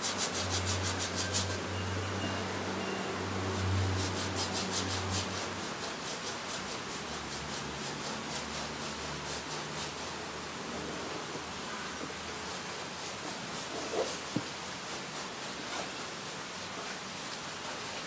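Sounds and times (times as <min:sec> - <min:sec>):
rubbing strokes on canvas: 0:00.0 - 0:01.7, 0:03.4 - 0:11.6, 0:12.2 - 0:18.0.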